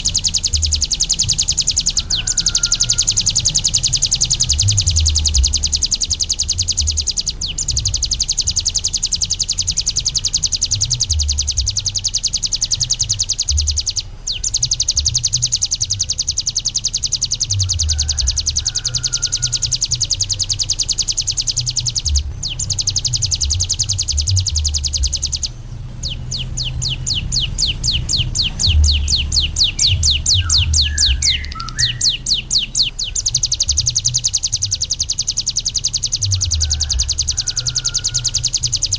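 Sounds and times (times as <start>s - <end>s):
bird singing high-pitched trill: 0.0s - 38.9s.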